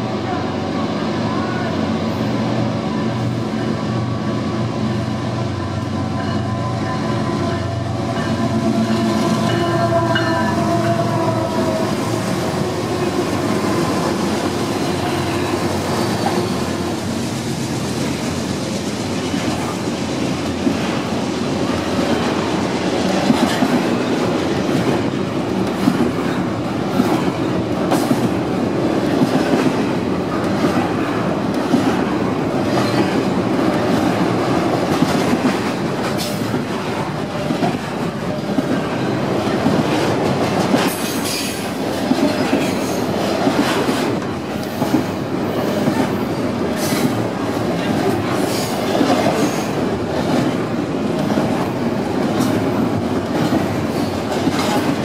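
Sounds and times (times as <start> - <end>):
diesel locomotive drone: 0.0 - 55.0
train wheels rumbling on rail: 0.0 - 55.0.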